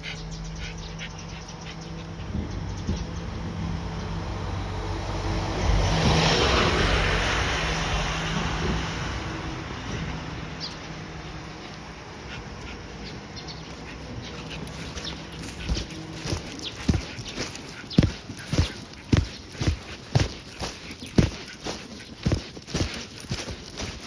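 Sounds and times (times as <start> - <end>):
vehicle passing by: 0.7 - 24.0.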